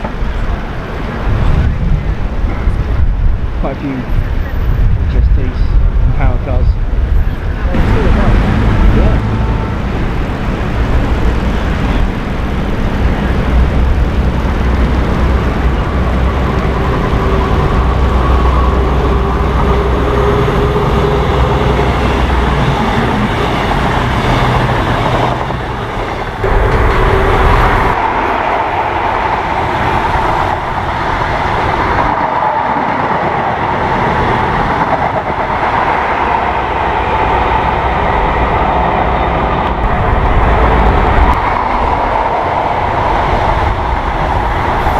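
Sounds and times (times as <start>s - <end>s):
diesel train engine: 0.0s - 44.9s
wheels rumbling on rails: 0.0s - 44.9s.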